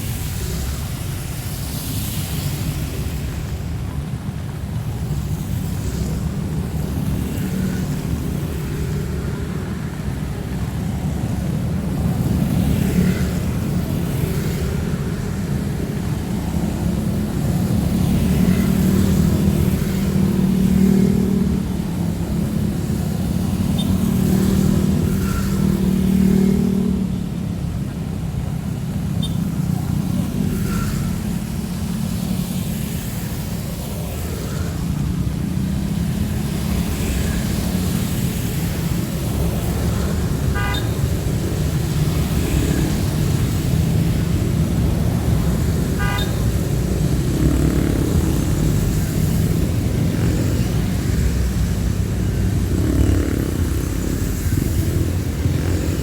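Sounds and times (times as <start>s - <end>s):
cars and motorcycles passing: 0.0s - 56.0s.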